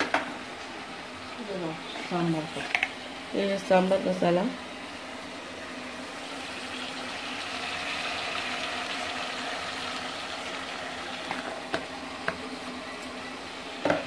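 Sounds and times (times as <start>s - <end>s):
vegetables frying in a pot: 0.0s - 14.0s.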